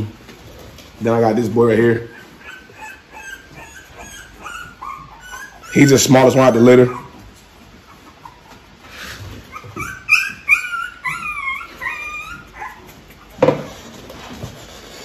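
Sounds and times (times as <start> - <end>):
puppy whining: 1.7 - 15.0.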